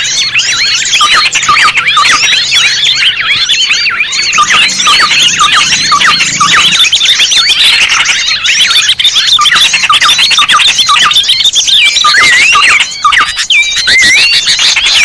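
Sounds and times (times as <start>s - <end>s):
songbirds chirping and chattering: 0.0s - 15.0s.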